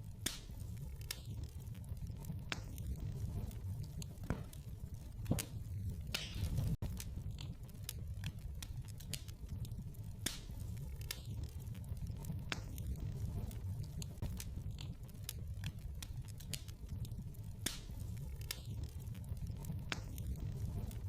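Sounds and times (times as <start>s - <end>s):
fire pops and snaps: 0.0s - 21.0s
low rumble of fire: 0.0s - 21.0s
wood fire crackling: 0.0s - 21.0s.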